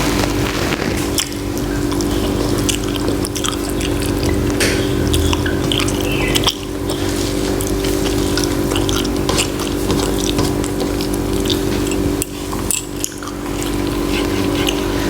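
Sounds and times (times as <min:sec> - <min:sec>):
steady low hum: 0:00.0 - 0:15.0
wet chewing and lip smacks: 0:01.2 - 0:13.8.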